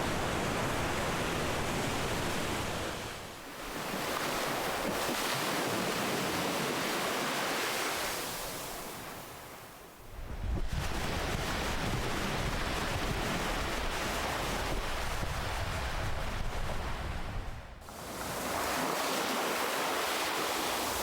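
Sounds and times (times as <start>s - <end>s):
ocean waves washing ashore: 0.0s - 21.0s.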